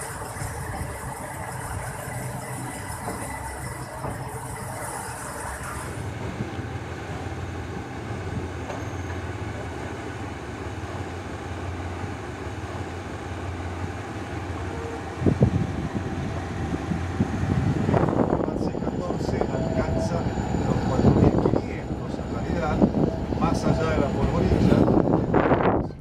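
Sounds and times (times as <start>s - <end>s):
passenger train rumbling: 0.0s - 26.0s.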